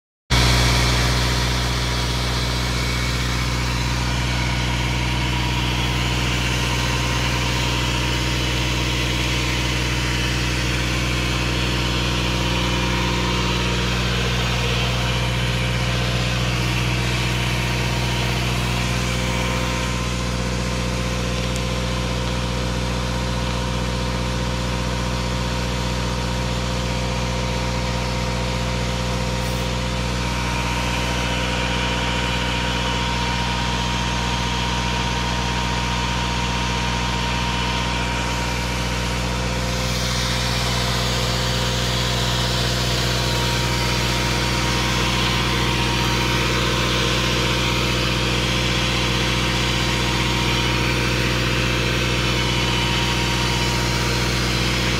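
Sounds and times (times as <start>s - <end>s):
tractor diesel engine droning: 0.3s - 54.9s.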